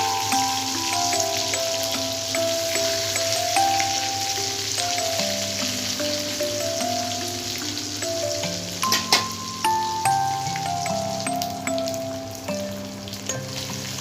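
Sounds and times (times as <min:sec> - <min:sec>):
fish sizzling in hot oil: 0:00.0 - 0:14.0
slow background music: 0:00.0 - 0:14.0.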